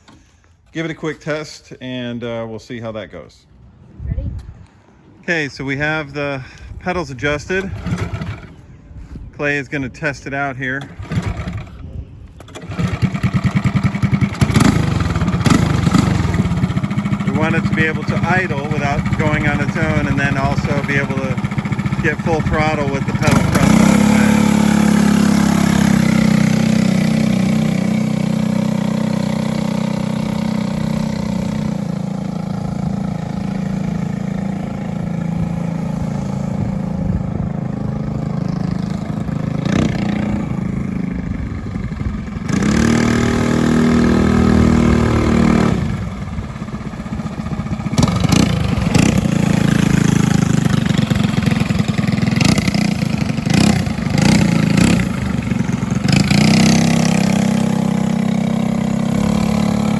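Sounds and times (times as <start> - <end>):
go-kart engine revving: 7.4 - 8.6, 10.8 - 59.9.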